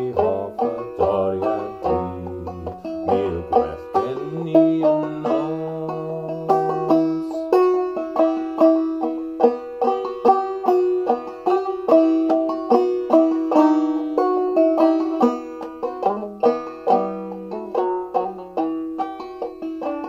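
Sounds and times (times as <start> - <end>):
banjo playing: 0.0 - 20.0.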